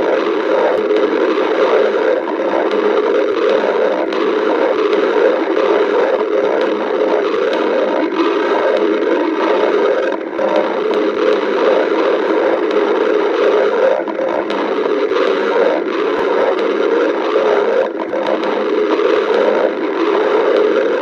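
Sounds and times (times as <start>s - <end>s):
stomach growling: 0.0s - 21.0s.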